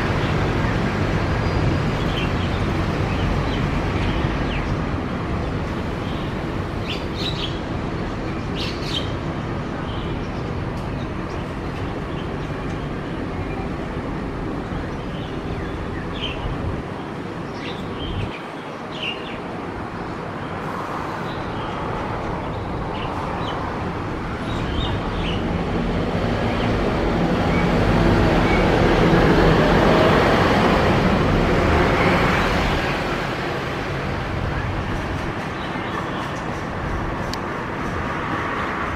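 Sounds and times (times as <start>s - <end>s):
road traffic: 0.0s - 38.9s.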